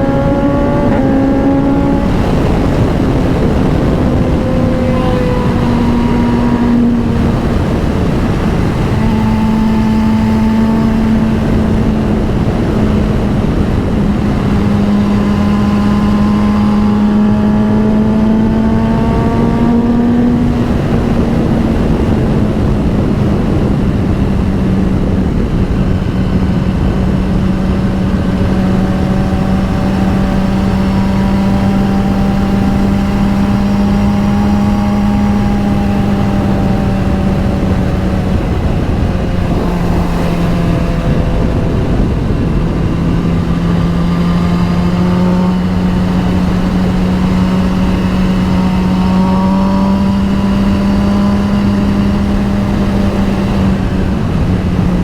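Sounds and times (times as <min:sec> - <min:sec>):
motorcycle engine cruising: 0:00.0 - 0:55.0
wind rush on microphone: 0:00.0 - 0:55.0.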